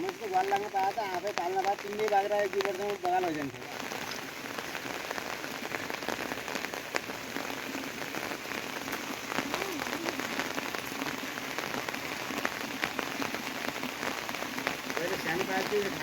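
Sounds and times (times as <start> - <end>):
raindrops ticking on a surface: 0.0 - 16.0.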